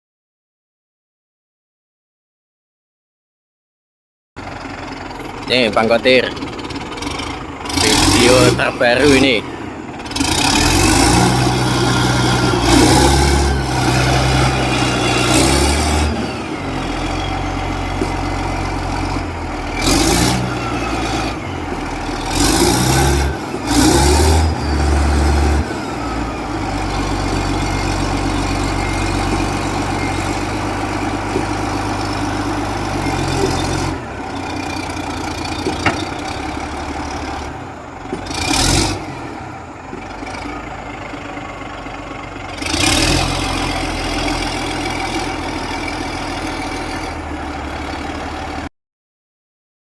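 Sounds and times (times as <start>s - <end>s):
bulldozer diesel engine running: 4.4s - 48.7s.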